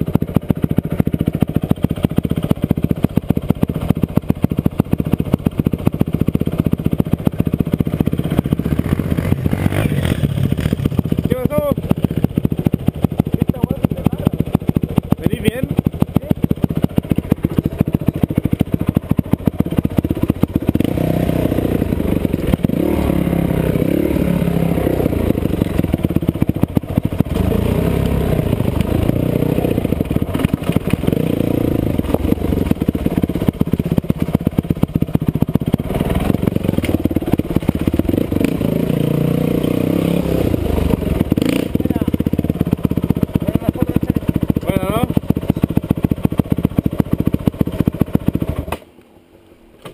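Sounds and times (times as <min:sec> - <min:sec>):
bike rattling and knocking: 0:00.0 - 0:48.8
motorcycle engine revving: 0:00.0 - 0:48.9.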